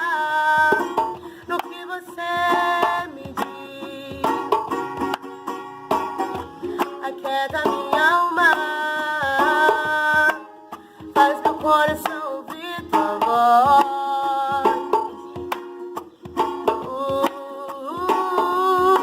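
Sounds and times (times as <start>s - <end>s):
hand drums beat: 0.0s - 19.0s.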